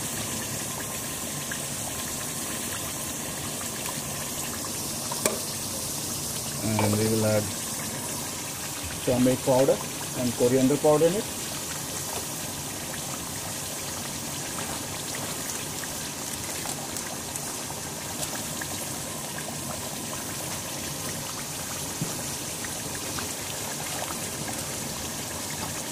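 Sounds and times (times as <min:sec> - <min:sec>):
curry bubbling and sizzling: 0:00.0 - 0:25.9.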